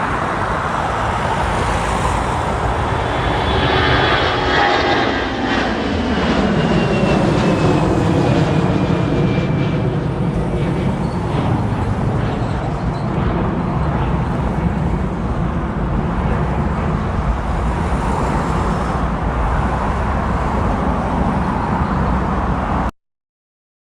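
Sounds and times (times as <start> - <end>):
jet engines rumbling: 0.0 - 22.9.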